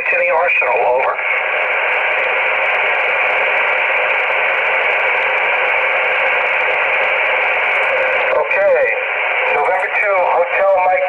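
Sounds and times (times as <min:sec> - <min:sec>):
radio band noise hiss: 0:00.0 - 0:11.0.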